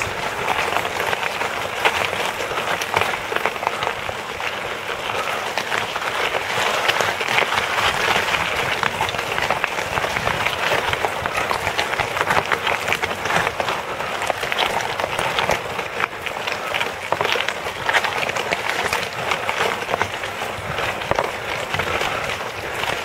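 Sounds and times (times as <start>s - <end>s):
bike tyres crunching on gravel: 0.0s - 23.0s.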